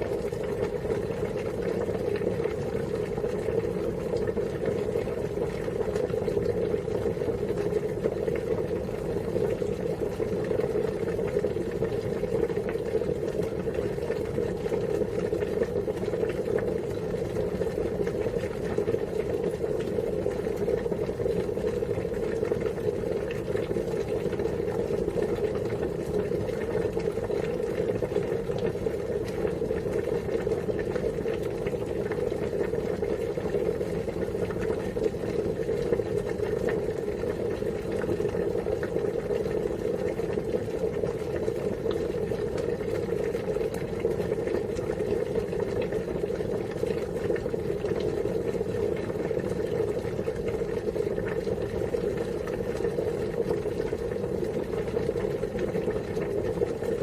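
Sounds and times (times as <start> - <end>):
water boiling: 0.0 - 57.0.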